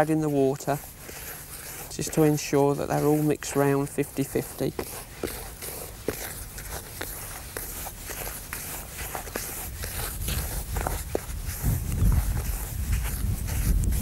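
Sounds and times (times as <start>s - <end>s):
hands stirring dry groundbait: 0.0s - 14.0s.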